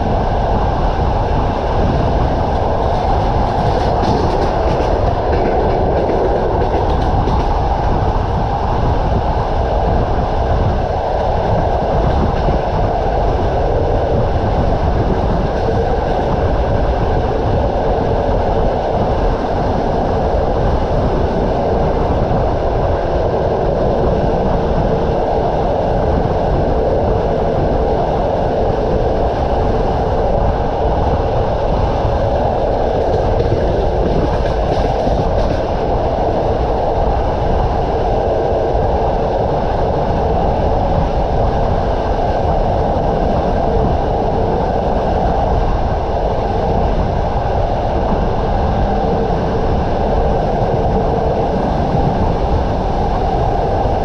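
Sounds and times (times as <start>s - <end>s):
constant hum: 0.0s - 54.0s
train wheels rumbling on rails: 0.0s - 54.0s.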